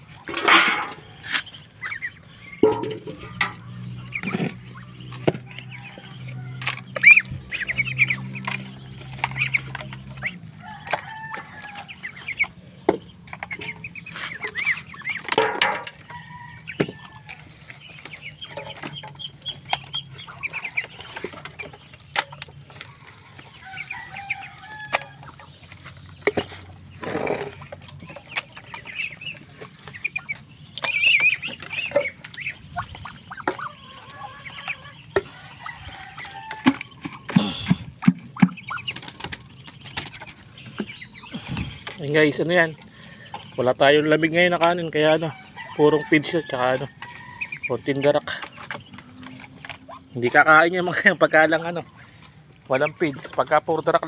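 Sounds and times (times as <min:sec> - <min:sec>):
chickens clucking: 0:00.0 - 0:54.0
chicks peeping: 0:00.0 - 0:54.0.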